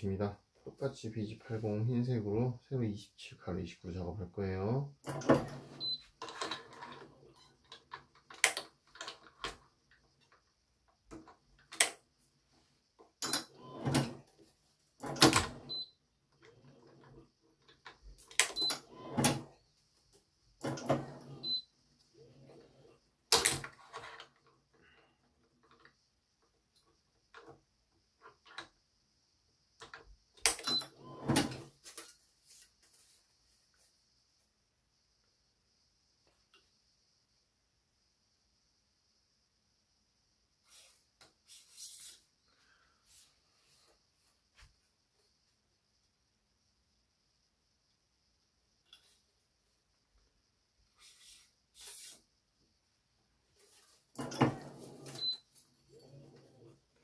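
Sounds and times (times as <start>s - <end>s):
faint steady hiss: 0.0s - 57.0s.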